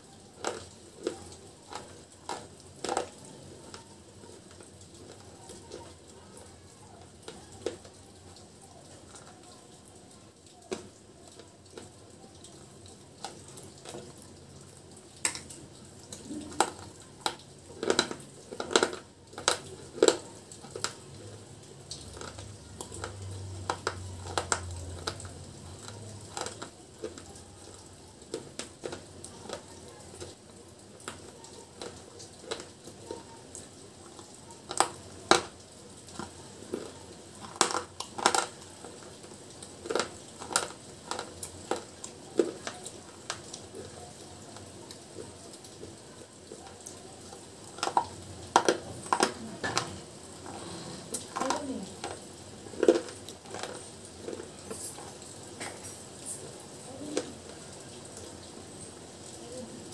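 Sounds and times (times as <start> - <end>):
crunching and chewing chips: 0.0 - 57.7.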